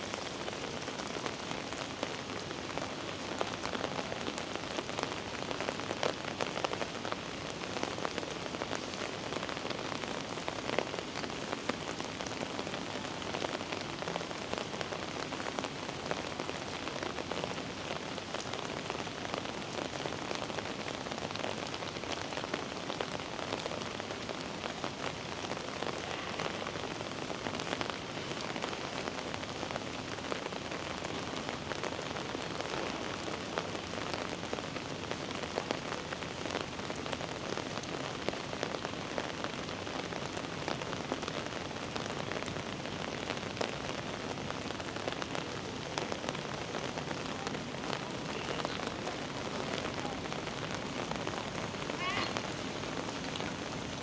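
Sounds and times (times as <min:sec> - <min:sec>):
rain hissing on wet pavement: 0:00.0 - 0:54.0.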